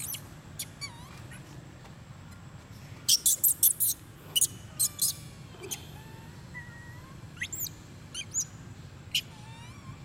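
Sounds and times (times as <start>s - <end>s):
high-pitched animal chirps: 0.0s - 1.4s, 3.1s - 10.0s
faint background hum: 0.0s - 10.0s.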